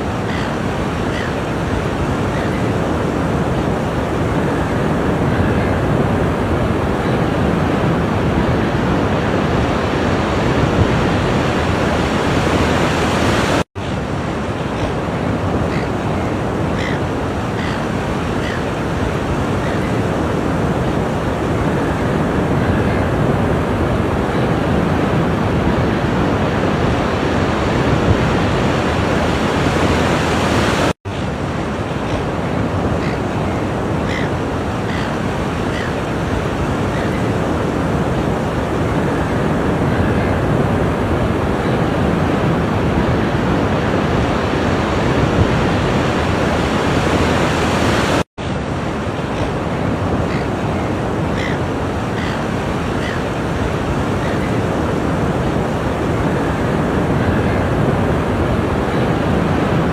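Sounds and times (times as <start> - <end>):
ocean waves on shore: 0.0 - 59.9.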